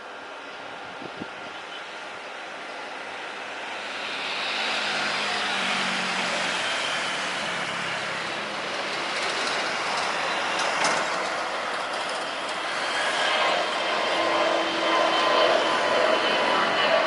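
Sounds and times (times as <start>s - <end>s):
jet engines rushing: 2.0s - 17.0s.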